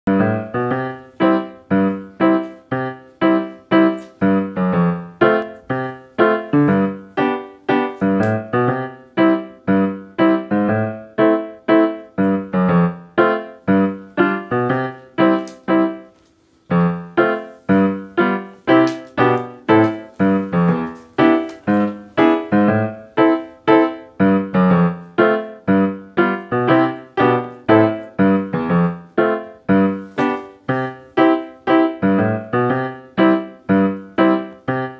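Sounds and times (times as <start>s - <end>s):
gentle piano music: 0.0s - 34.9s.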